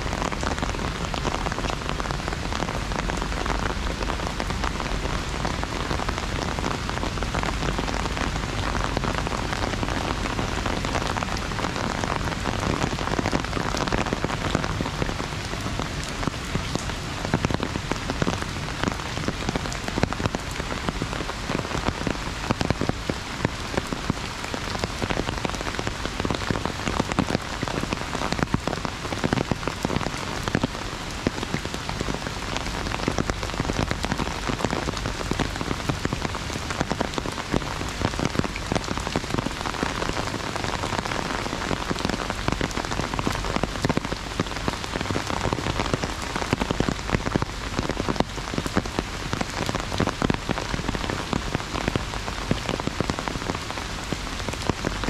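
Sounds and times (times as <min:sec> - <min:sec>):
heavy rain on an umbrella: 0:00.0 - 0:55.0.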